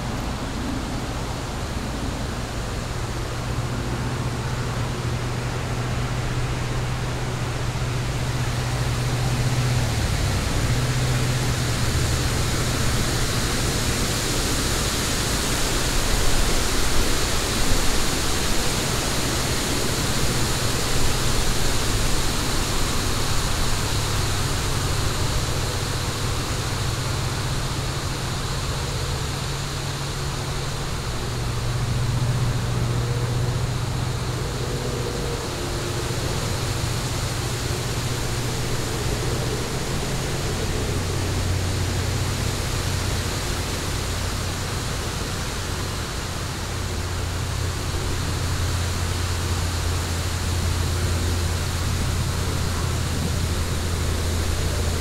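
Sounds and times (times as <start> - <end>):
fire burning with hiss: 0.0 - 55.0.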